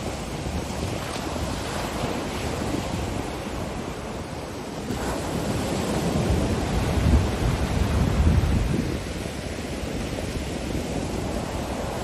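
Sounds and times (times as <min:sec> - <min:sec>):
ocean surf breaking: 0:00.0 - 0:12.0
wind: 0:00.0 - 0:12.0.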